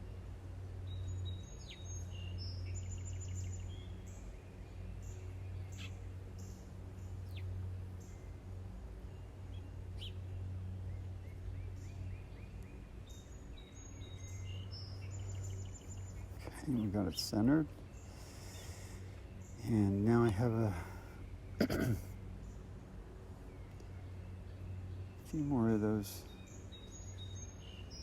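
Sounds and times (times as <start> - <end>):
birds chirping and trilling: 0.0 - 28.0
steady low hum: 0.0 - 28.0.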